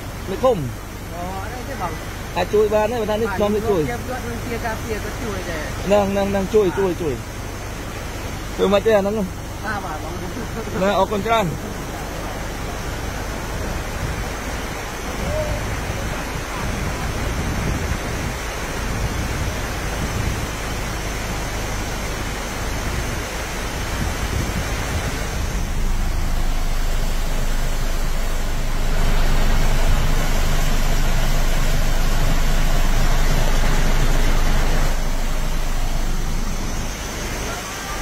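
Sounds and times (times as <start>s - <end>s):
vehicle engine running: 0.0s - 38.0s
water swishing against vehicle: 0.0s - 38.0s.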